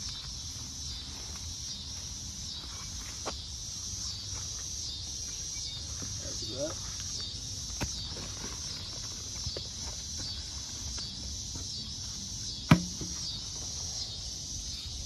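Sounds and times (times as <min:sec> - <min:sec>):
insect chorus pulsing: 0:00.0 - 0:15.0.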